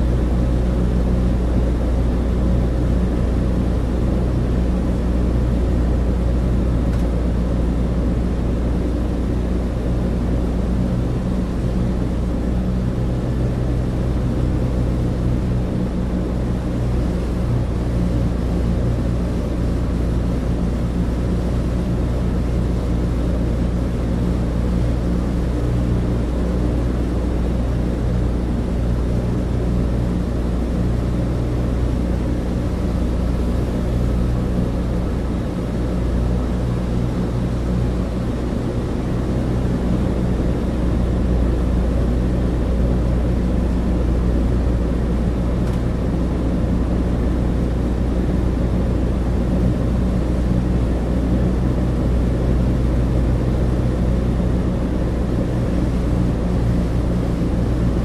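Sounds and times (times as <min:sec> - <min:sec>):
propeller engines droning: 0:00.0 - 0:58.0.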